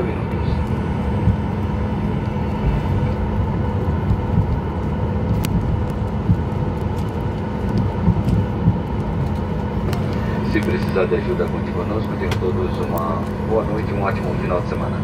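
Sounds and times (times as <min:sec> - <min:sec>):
jet engines idling: 0:00.0 - 0:15.0
steady cabin hum: 0:00.0 - 0:15.0
wheels rolling on taxiway: 0:00.0 - 0:15.0.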